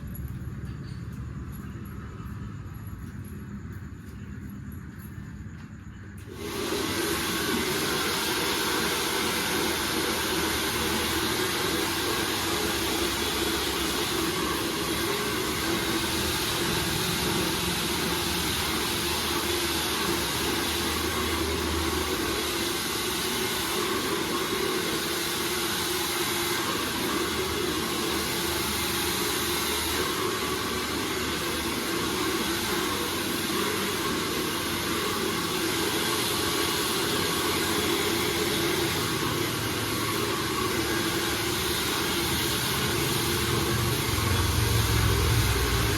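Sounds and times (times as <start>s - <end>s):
hair dryer blowing air: 6.2s - 45.9s.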